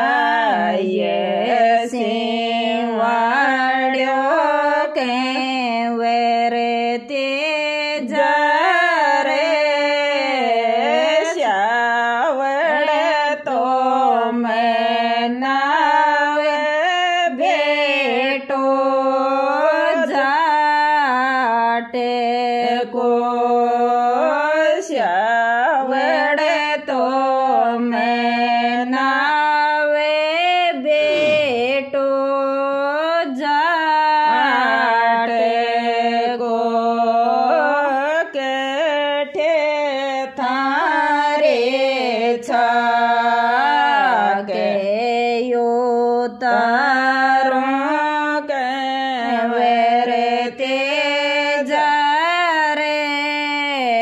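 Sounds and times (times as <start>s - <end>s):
woman singing unaccompanied folk song: 0.0s - 54.0s.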